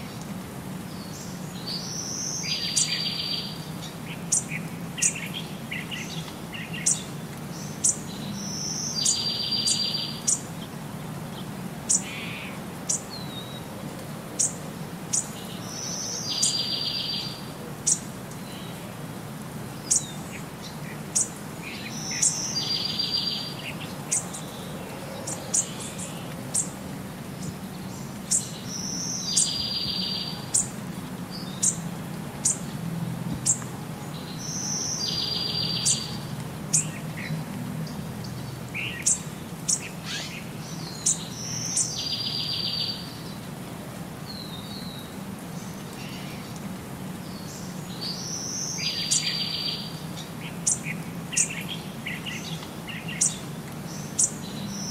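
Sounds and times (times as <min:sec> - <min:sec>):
birds chirping: 0:00.9 - 0:13.7, 0:14.4 - 0:18.9, 0:19.7 - 0:43.5, 0:44.3 - 0:54.9.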